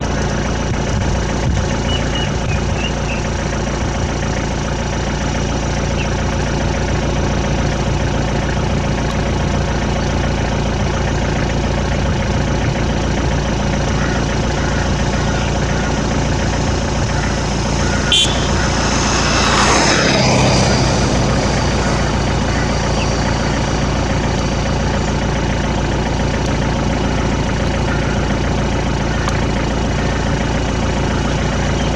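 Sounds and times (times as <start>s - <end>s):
engine humming: 0.0s - 31.9s.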